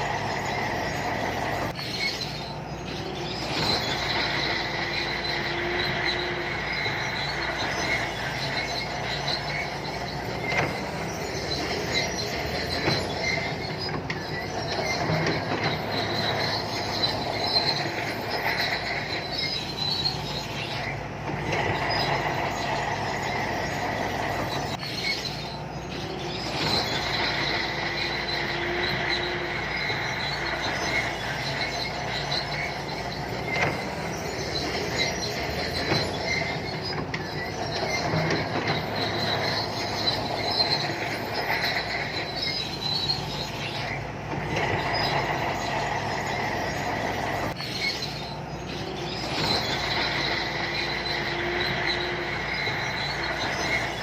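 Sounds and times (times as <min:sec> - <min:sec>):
bulldozer diesel engine: 0:00.0 - 0:54.0
steel tracks squealing and clattering: 0:00.0 - 0:54.0.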